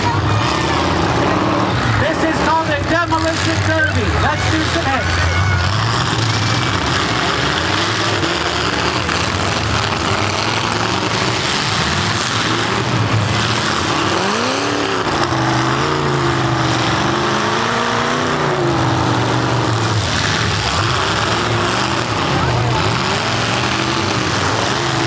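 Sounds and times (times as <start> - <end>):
engine revving: 0.0 - 25.0
several car engines running hard: 0.0 - 25.0.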